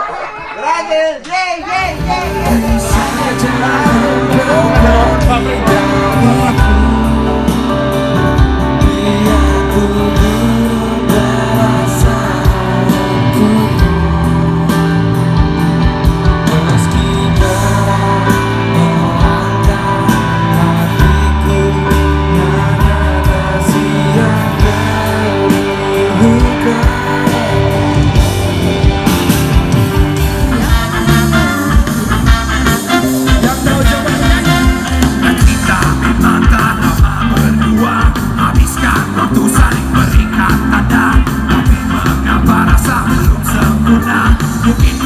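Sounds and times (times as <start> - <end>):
rock music with singing: 1.3 - 45.0.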